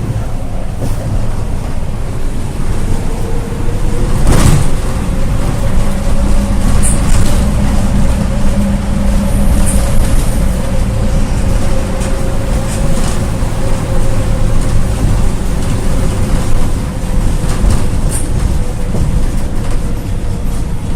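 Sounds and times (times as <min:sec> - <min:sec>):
road rumble: 0:00.0 - 0:20.9
wheel whine: 0:00.0 - 0:20.9.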